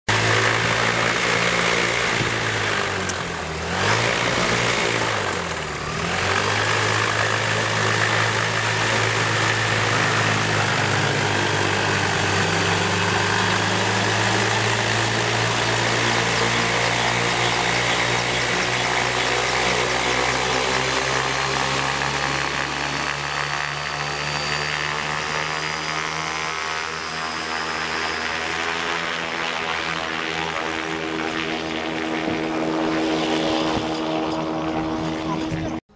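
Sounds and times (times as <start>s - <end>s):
engine running with propeller: 0.0s - 35.9s.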